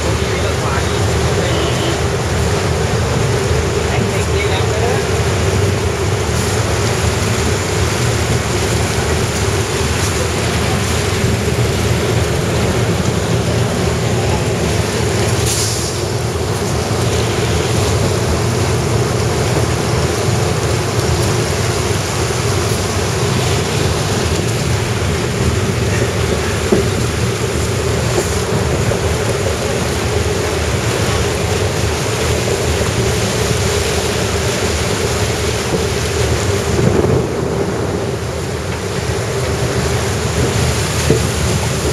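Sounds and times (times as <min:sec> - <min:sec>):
train rumbling: 0:00.0 - 0:41.9
wheels rushing through water: 0:00.0 - 0:41.9.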